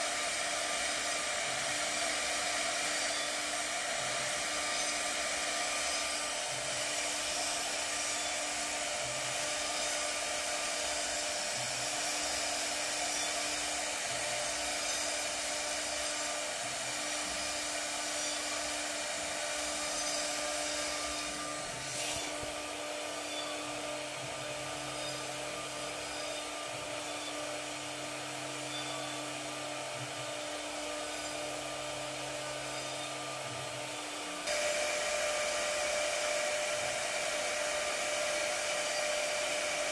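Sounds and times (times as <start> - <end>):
electric motor whirring: 0.0 - 39.9.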